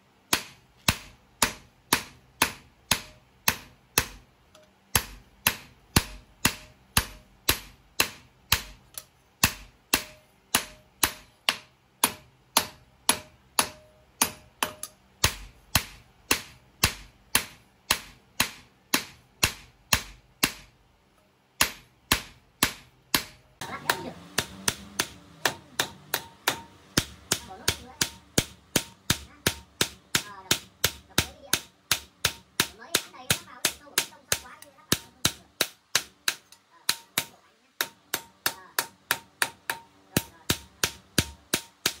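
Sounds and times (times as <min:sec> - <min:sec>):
hammer striking steel: 0:00.3 - 0:20.8, 0:21.6 - 0:42.0.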